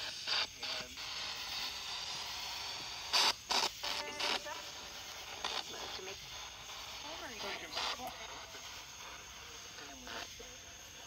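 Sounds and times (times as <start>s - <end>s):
choppy radio bursts: 0.0s - 11.0s
radio static hiss: 0.0s - 11.0s.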